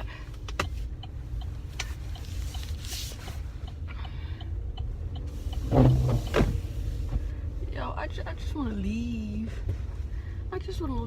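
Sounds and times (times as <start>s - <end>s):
car engine and tyres rumble: 0.0s - 11.0s.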